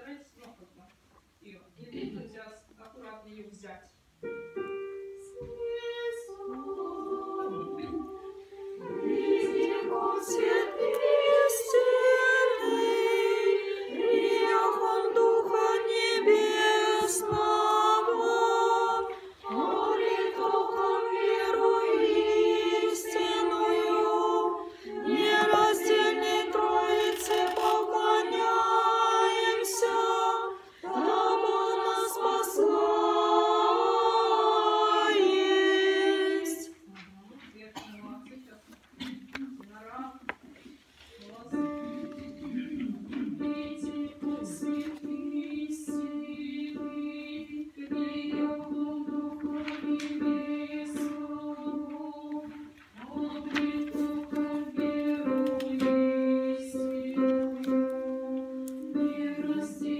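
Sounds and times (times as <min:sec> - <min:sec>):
choir chanting a cappella: 0:05.4 - 0:36.9, 0:41.5 - 0:59.9.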